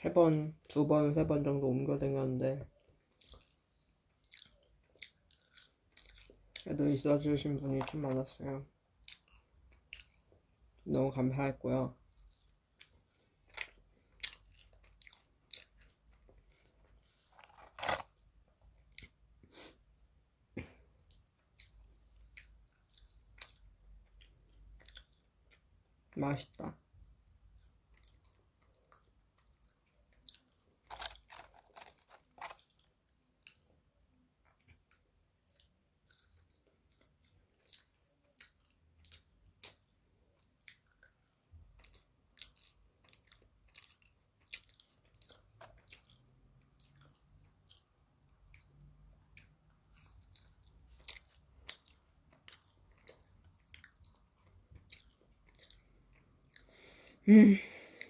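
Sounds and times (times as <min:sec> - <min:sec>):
person chewing fries: 0:02.7 - 0:10.9, 0:12.0 - 0:19.8, 0:20.6 - 0:26.1, 0:27.1 - 0:57.1.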